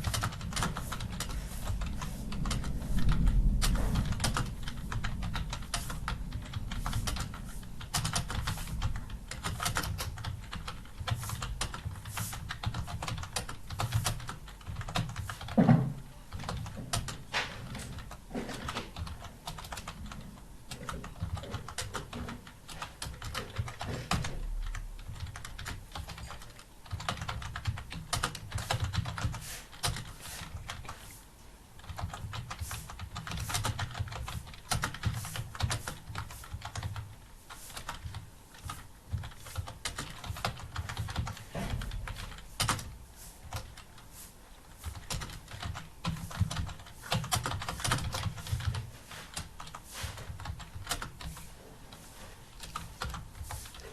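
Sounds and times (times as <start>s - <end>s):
computer keyboard typing: 0.0s - 15.6s, 16.3s - 31.1s, 31.8s - 53.9s.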